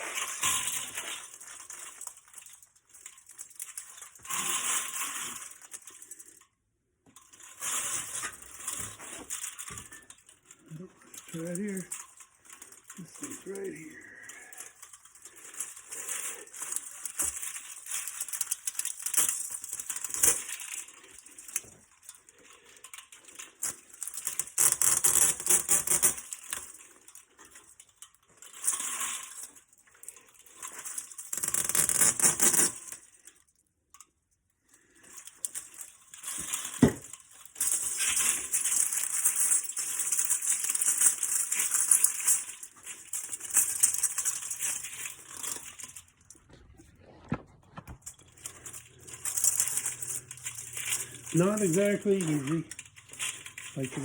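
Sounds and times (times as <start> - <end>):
metal fins tearing and crinkling: 0.0 - 6.6, 7.2 - 54.0.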